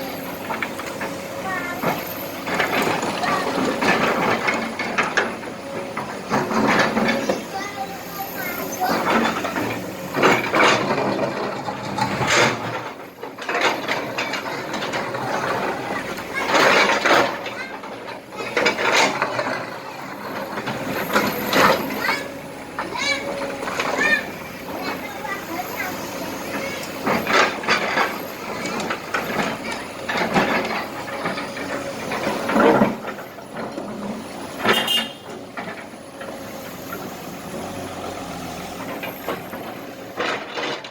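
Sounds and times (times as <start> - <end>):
excavator bucket scraping and clattering: 0.0 - 40.9.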